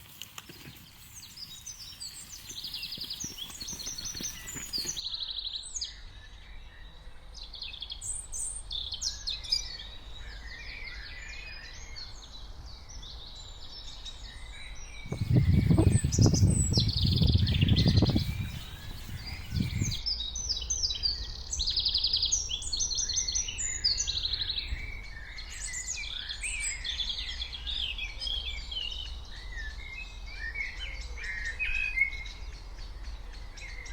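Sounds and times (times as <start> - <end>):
small birds chirping: 0.0 - 5.4, 7.6 - 33.9.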